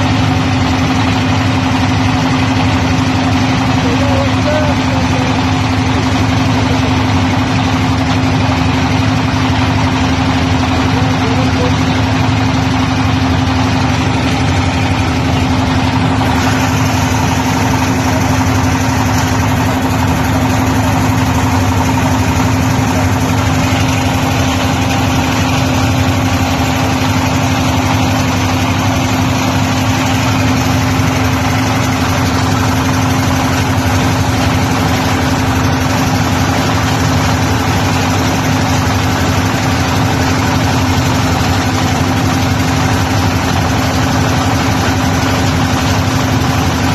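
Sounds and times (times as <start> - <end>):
boat engine humming: 0.0 - 46.9.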